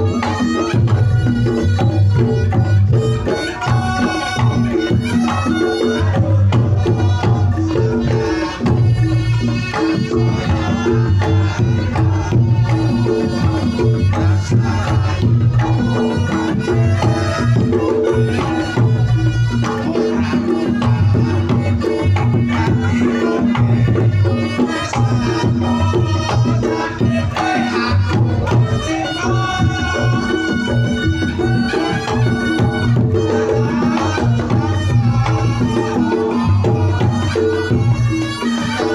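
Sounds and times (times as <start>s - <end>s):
gamelan music with drums: 0.0s - 38.9s.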